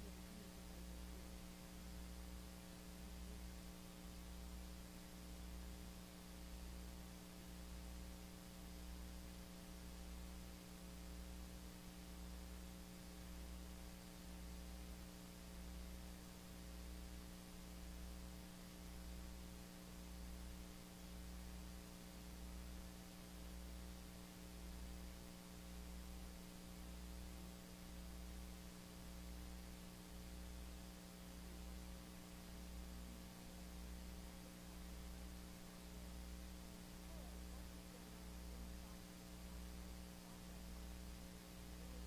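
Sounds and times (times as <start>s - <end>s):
faint hum and hiss: 0.0s - 42.0s.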